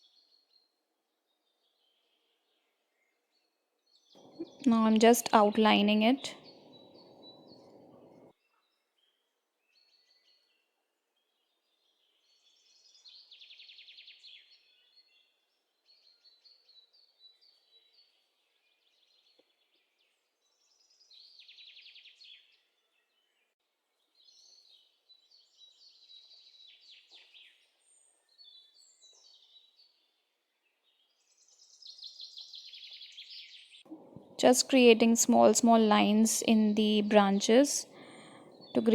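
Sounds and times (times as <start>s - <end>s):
birds chirping and trilling: 1.6s - 10.6s, 11.4s - 23.5s, 24.1s - 38.9s.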